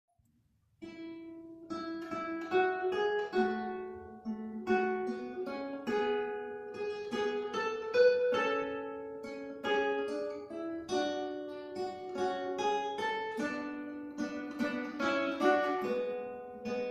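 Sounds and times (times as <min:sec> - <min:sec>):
acoustic guitars playing: 0:00.8 - 0:16.9.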